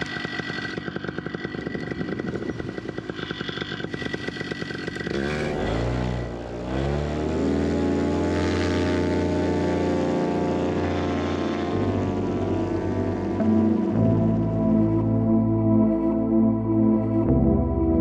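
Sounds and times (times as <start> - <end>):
two-stroke engine idling and revving: 0.0 - 16.3.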